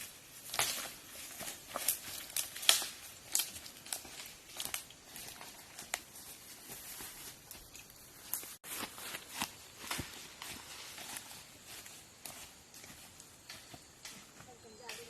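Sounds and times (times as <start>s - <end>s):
dry forest litter crackling: 0.0s - 15.0s.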